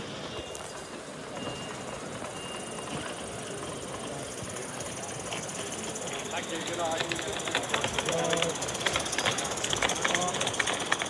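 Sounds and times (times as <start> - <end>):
busy exhibition hall din: 0.0 - 11.0.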